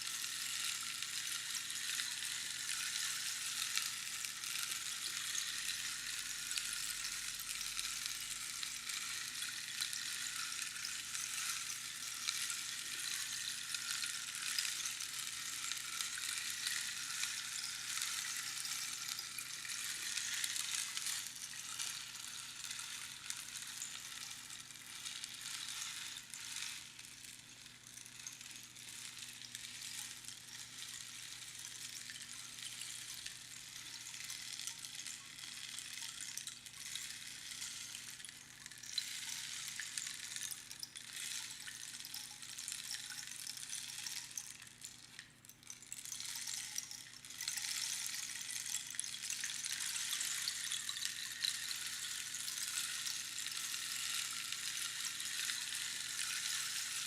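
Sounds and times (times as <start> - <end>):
rainstick pebbles trickling: 0.0 - 57.0.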